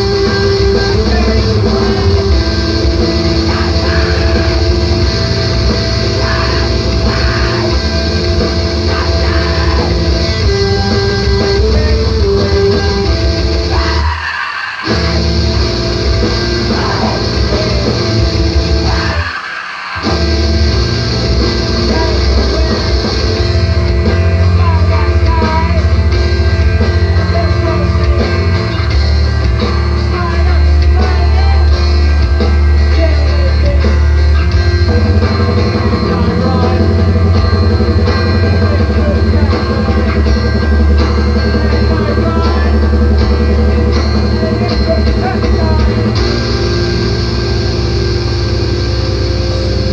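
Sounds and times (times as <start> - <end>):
heavy screamo band music: 0.0 - 49.9.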